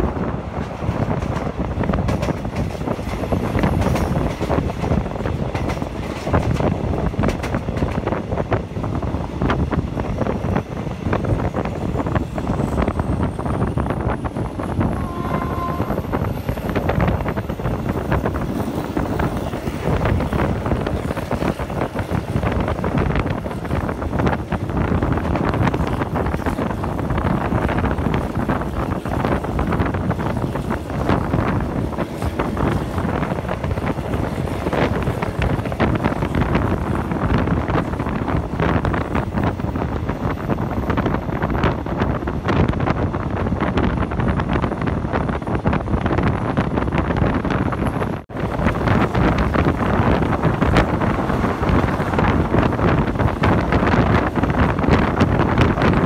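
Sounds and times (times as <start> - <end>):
train rumbling and rattling: 0.0 - 56.0
wind buffeting microphone: 0.0 - 56.0.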